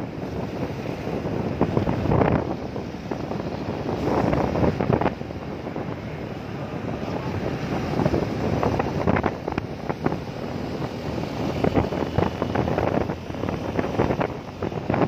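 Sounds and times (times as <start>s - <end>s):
motorcycle road noise: 0.0s - 15.0s
wind buffeting microphone: 0.0s - 15.0s.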